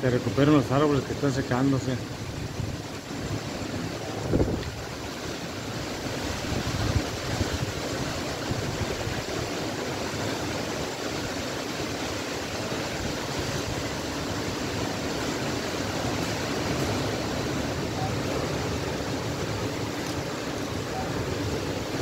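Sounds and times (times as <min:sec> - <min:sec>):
strong wind rushing through trees: 0:00.0 - 0:22.0
wind gusts buffeting microphone: 0:00.0 - 0:22.0.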